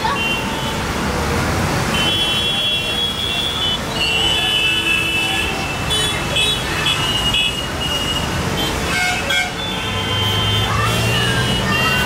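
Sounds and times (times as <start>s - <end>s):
traffic engines and tyres rumbling: 0.0s - 12.0s
vehicle horns honking: 1.9s - 12.0s.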